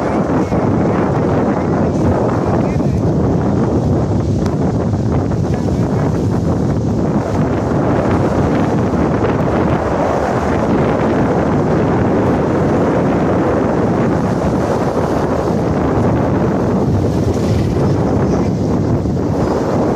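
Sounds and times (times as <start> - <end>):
river water rushing: 0.0 - 19.9
wind buffeting microphone: 0.0 - 19.9.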